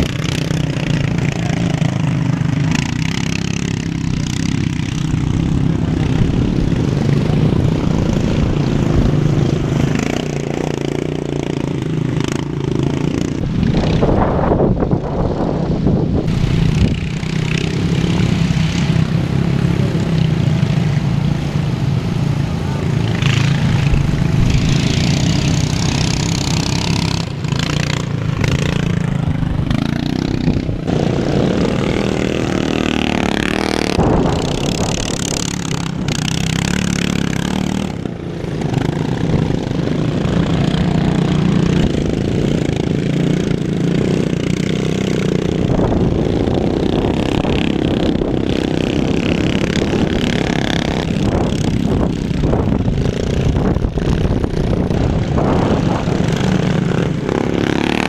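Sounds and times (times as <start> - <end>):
racing lawn mower engines revving: 0.0 - 58.0.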